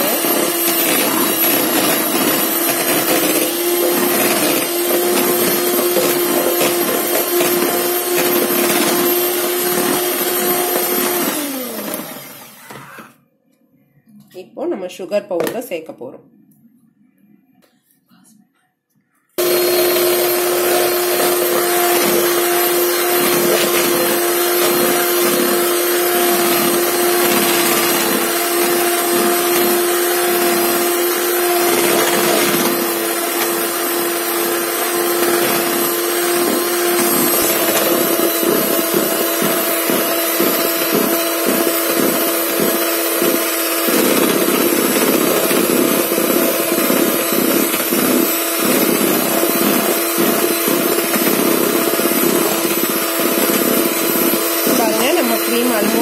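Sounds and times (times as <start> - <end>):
electric hand mixer running: 0.0 - 13.2, 19.4 - 56.0.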